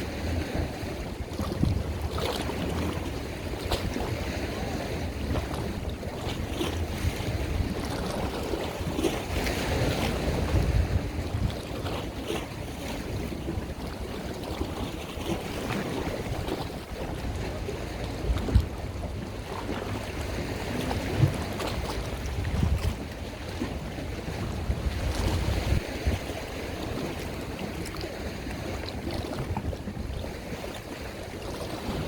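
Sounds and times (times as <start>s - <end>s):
boat noise: 0.0s - 32.0s
wind buffeting microphone: 0.0s - 32.0s.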